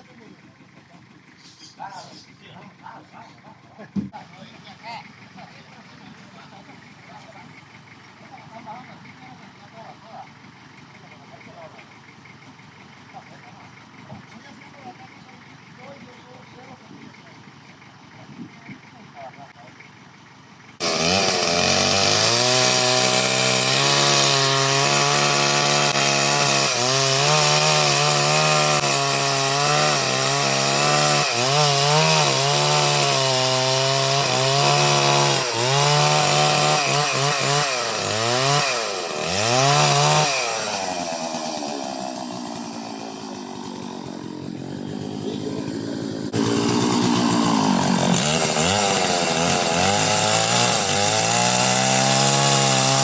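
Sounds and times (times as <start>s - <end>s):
chainsaw cutting: 3.9s - 19.7s, 20.7s - 53.0s.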